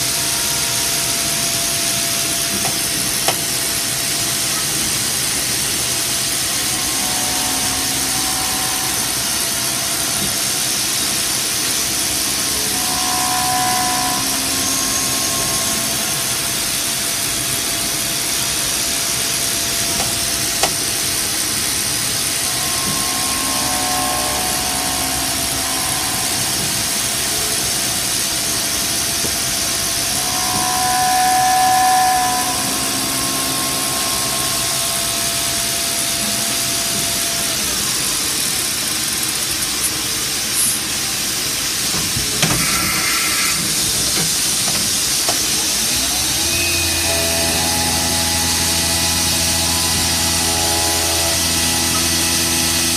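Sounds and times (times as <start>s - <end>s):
machine humming tone: 0.0s - 52.9s
milling machine cutting hiss: 0.0s - 52.9s.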